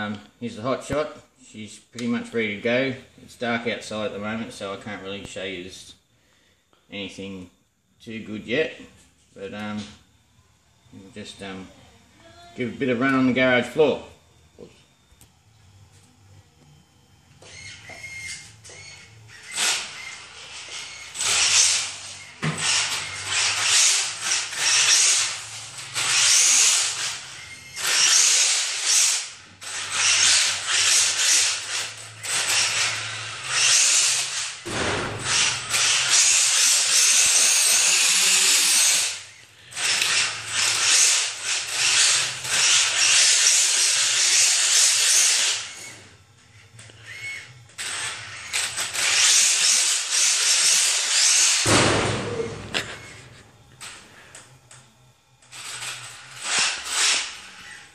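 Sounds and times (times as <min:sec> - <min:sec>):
rc car motor whine: 0:02.4 - 0:57.9
tyres on concrete floor: 0:08.2 - 0:57.9.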